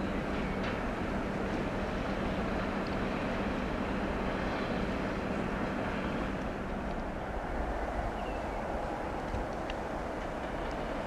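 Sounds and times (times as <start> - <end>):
distant diesel locomotive engine: 0.0 - 11.0
outdoor noise: 0.0 - 11.0.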